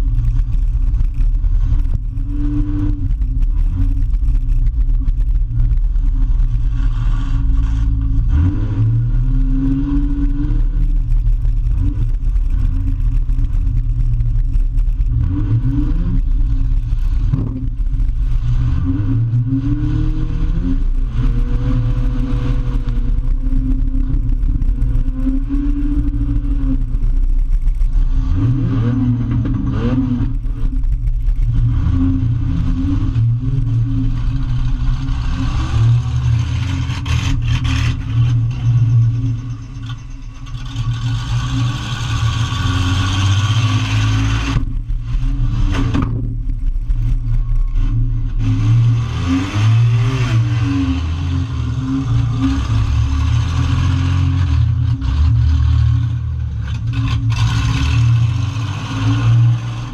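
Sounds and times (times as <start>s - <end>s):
loud car engine revving: 0.0s - 59.9s.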